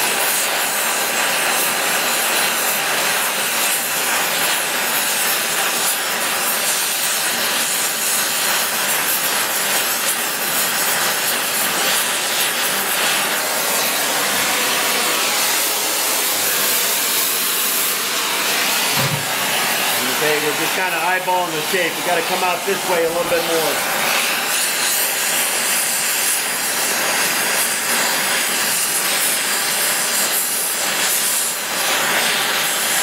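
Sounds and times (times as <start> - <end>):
torch flame hissing: 0.0 - 33.0.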